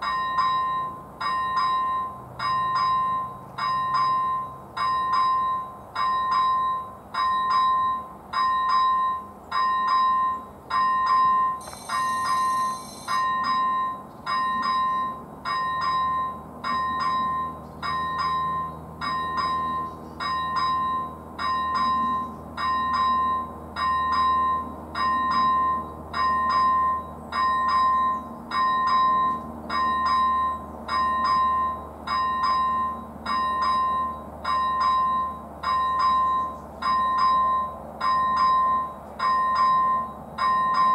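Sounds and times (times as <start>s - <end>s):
electronic level crossing bell: 0.0s - 40.9s.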